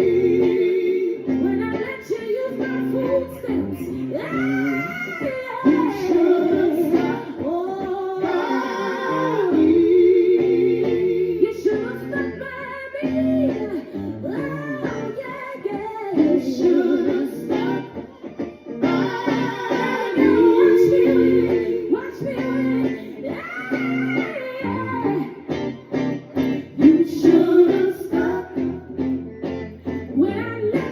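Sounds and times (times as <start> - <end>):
guitar: 0.0 - 30.9
person singing with vibrato: 0.0 - 30.9.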